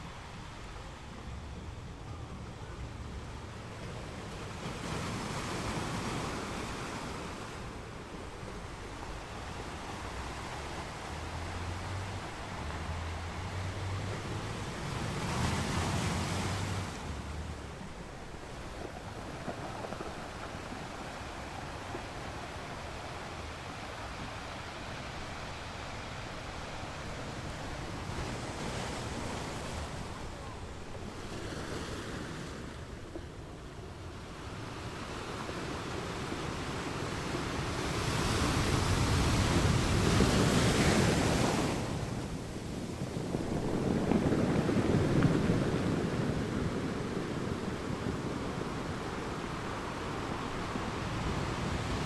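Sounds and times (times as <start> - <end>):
sea waves washing ashore: 0.0 - 52.0
wind rumble on microphone: 0.0 - 52.0.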